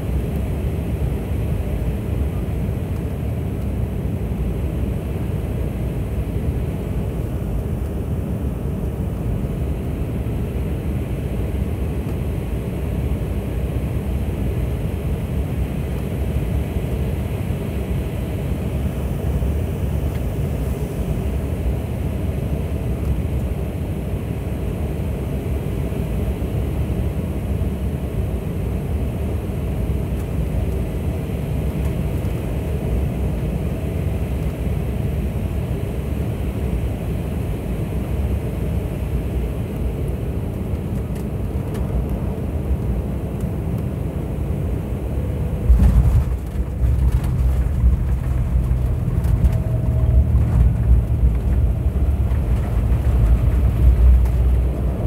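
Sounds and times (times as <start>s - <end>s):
jet engines and rushing air: 0.0s - 55.0s.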